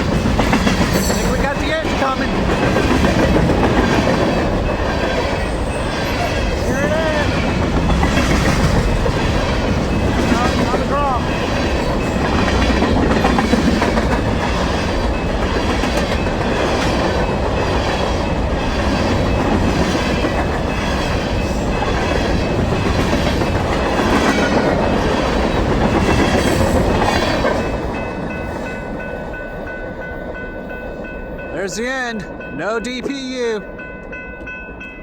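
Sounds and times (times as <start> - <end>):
clickety-clack of train wheels: 0.0 - 31.3
train wheels on rails: 0.0 - 35.0.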